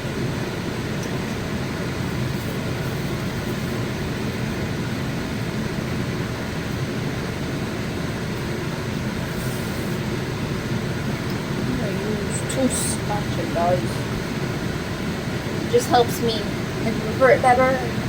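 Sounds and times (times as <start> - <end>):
steady rushing noise with hum: 0.0 - 18.0.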